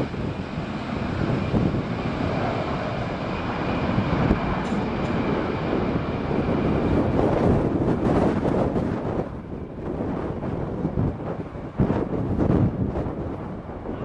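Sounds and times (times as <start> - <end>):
faint high engine whine: 0.0 - 14.0
jet engines at takeoff power: 0.0 - 14.0.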